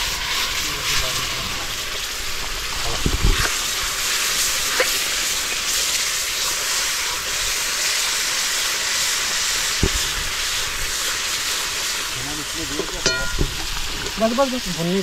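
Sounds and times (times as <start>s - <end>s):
spices sizzling in a wok: 0.0s - 15.0s.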